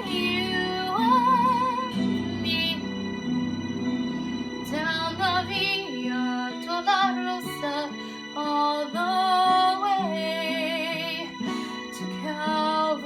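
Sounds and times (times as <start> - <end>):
woman singing with vibrato: 0.0 - 3.0, 4.6 - 13.0
instrumental accompaniment: 0.0 - 13.0.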